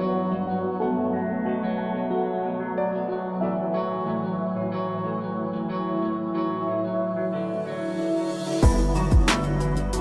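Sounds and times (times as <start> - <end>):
plucked guitar-like music: 0.0 - 10.0.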